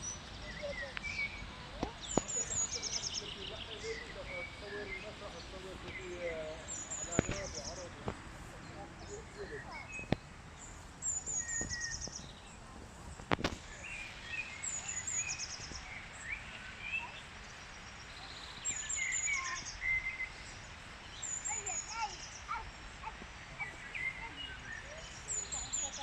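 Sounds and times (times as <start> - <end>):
songbird trilling phrase: 0.0 - 8.1, 8.7 - 10.2, 11.0 - 12.7, 13.6 - 26.0
birds chirping: 0.0 - 26.0.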